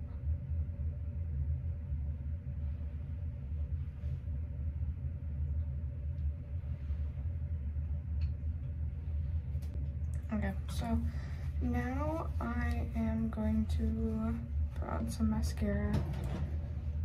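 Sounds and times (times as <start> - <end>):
faint even hum: 0.0 - 17.0
room ventilation rumble: 0.0 - 17.0.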